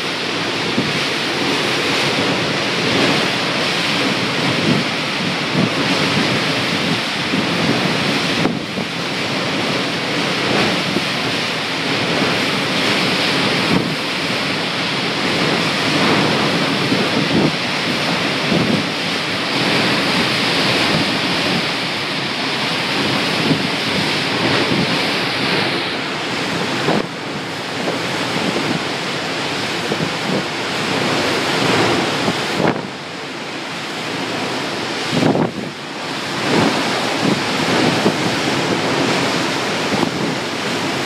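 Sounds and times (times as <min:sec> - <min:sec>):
driving rain: 0:00.0 - 0:41.0
wind gusting: 0:00.0 - 0:41.0.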